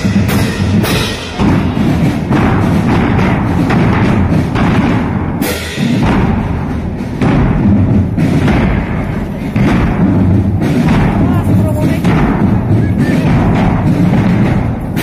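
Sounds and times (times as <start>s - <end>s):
bass drums beating: 0.0s - 15.0s
marching drum band playing: 0.0s - 15.0s.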